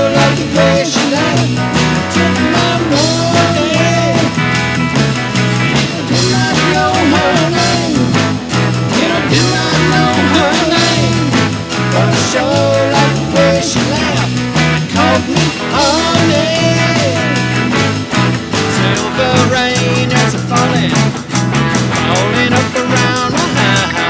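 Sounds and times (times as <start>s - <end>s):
harmonica lead: 0.0s - 24.0s
rock band playing: 0.0s - 24.0s.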